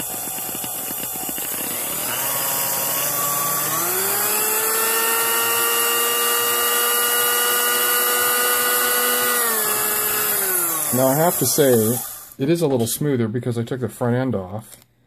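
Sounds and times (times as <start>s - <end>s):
stand mixer motor whine: 0.0s - 12.4s.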